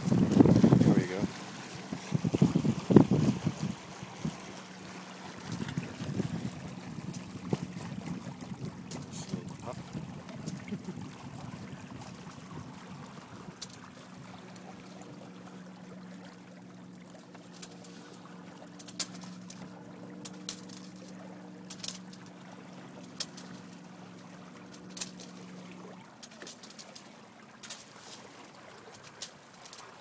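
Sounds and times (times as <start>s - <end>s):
steady low hum: 0.0s - 28.0s
water slapping: 0.0s - 30.0s
water trickling along hulls: 0.0s - 30.0s.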